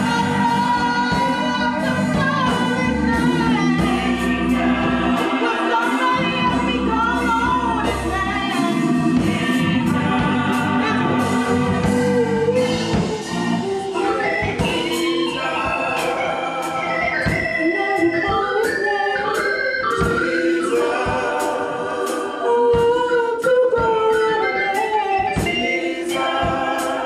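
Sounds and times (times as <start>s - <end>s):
bass line: 0.0s - 21.8s
choir singing gospel: 0.0s - 27.0s
steady drum beat: 0.0s - 27.0s.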